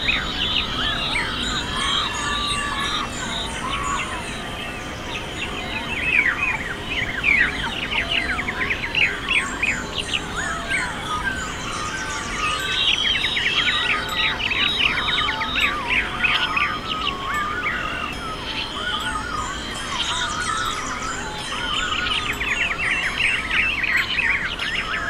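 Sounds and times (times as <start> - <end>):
birds chirping chorus: 0.0 - 25.0.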